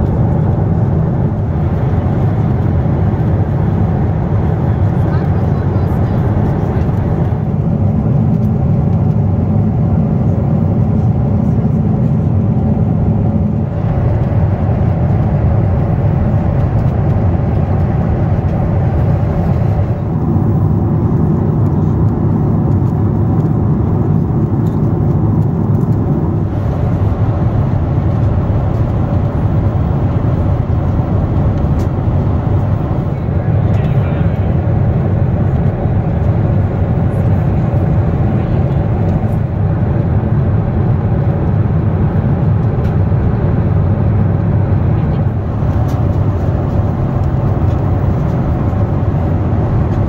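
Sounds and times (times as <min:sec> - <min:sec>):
airliner cabin noise: 0:00.0 - 0:50.0.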